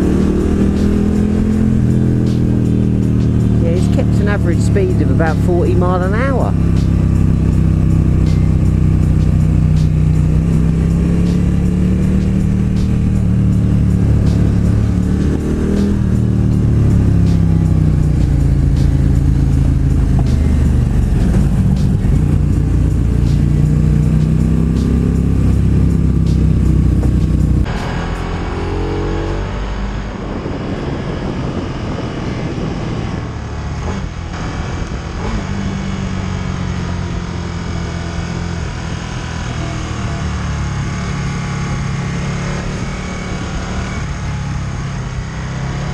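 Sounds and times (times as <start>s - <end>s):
motorcycle engine revving: 0.0s - 45.9s
wind and road noise: 0.0s - 45.9s.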